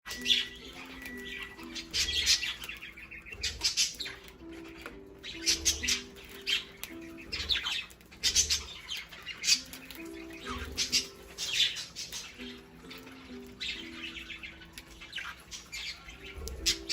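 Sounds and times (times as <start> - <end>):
budgerigars squawking and chirping: 0.1 - 16.9.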